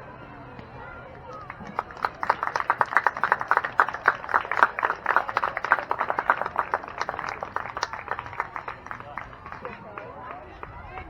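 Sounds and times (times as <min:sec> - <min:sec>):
spectators clapping: 0:01.1 - 0:11.0.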